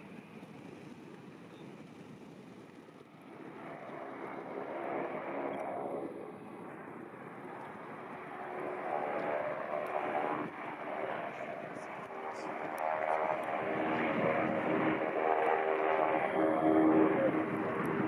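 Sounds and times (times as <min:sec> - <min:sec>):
airliner engine noise: 0:00.0 - 0:18.0.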